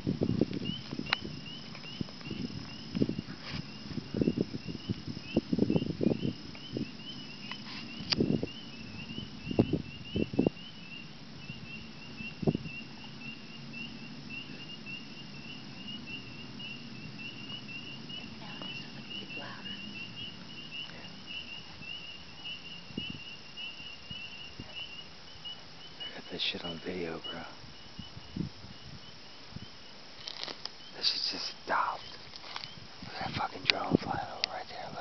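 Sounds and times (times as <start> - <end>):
steady low hum: 0.0 - 30.2
insects trilling: 0.0 - 35.0.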